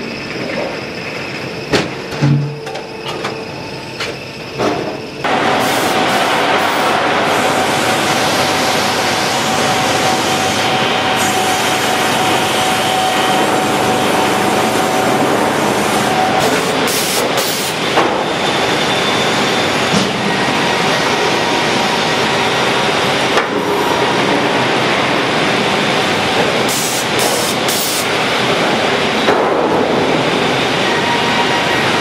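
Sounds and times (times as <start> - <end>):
conveyor clatter and rumble: 0.0 - 32.0.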